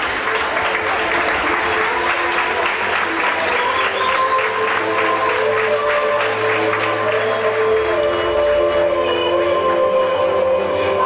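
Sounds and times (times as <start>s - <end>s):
crowd applauding: 0.0s - 11.0s
music playing: 0.0s - 11.0s.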